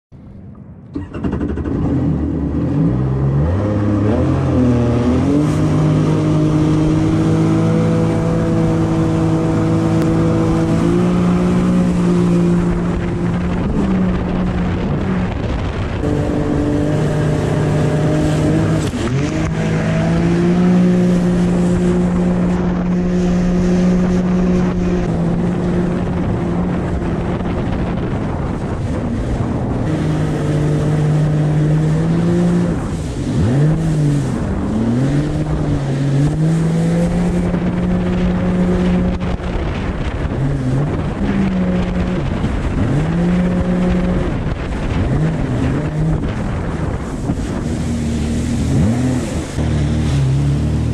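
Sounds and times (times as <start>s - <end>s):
jet ski engine: 0.2s - 50.9s
water rushing: 0.9s - 50.9s.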